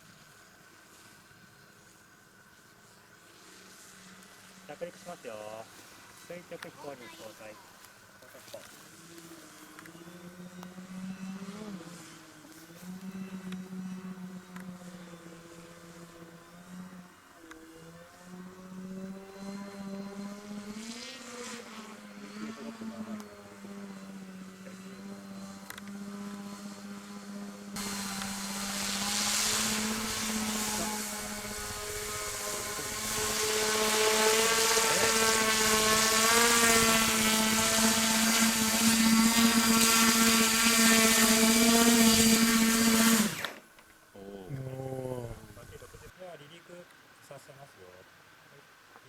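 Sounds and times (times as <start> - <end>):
drone rotors humming: 0.0 - 46.1.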